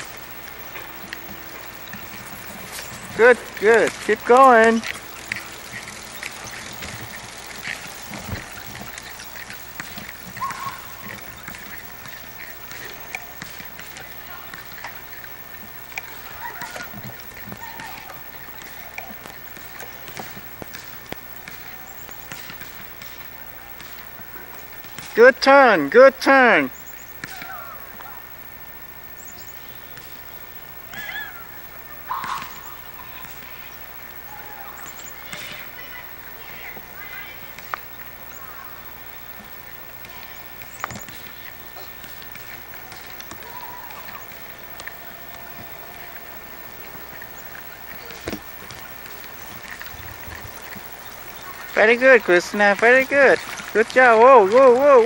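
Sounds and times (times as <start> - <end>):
faint ticks: 0.0 - 55.0
high chirps: 0.0 - 55.0
animal calls: 1.0 - 25.0, 26.7 - 52.3.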